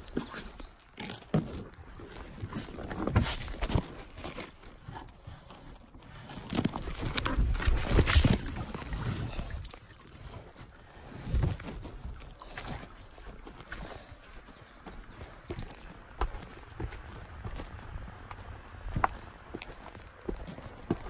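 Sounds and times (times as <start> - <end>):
footsteps on forest floor: 0.0 - 21.0.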